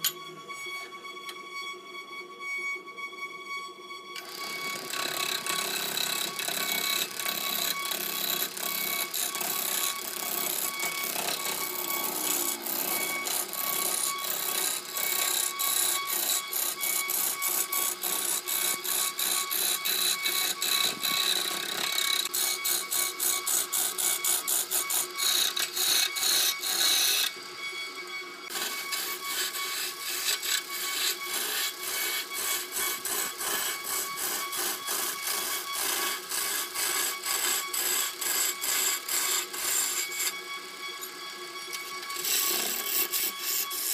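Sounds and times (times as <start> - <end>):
lathe tool cutting wood: 4.1 - 43.9.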